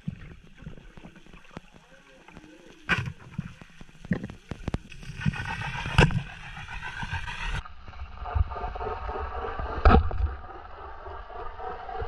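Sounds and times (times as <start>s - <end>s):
boat engine drone underwater: 0.0s - 12.0s.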